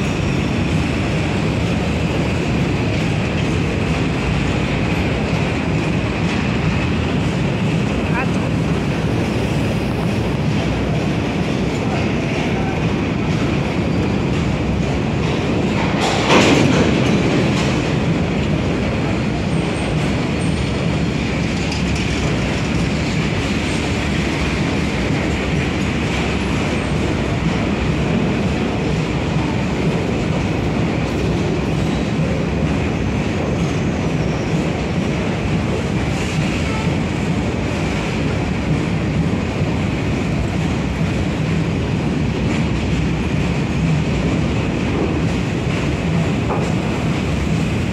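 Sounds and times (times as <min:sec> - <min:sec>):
steel wheels rumbling on rails: 0:00.0 - 0:47.9.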